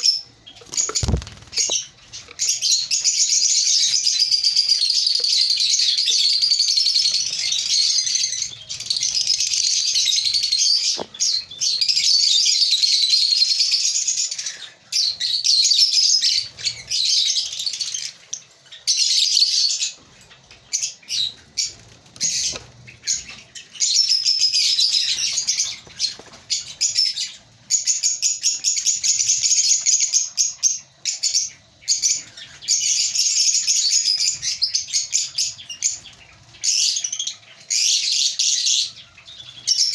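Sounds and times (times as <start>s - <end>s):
lovebirds chattering and chirping: 0.0s - 39.9s.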